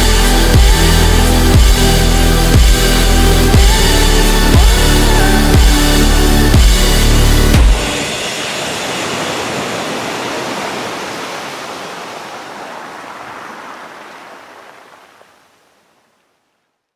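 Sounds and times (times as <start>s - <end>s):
ocean waves washing in: 0.0s - 16.5s.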